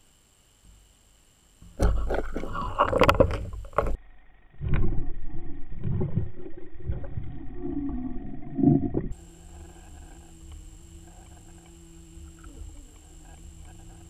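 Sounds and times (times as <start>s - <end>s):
muffled underwater rumbling: 1.6s - 14.0s.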